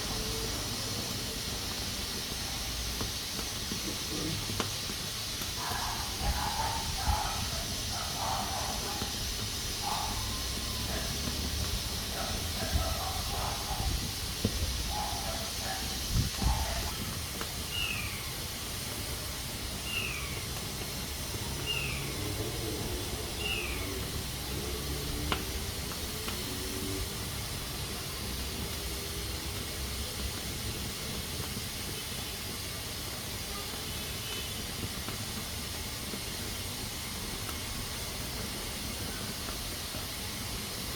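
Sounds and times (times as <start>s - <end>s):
pressure cooker hissing: 0.0s - 40.9s.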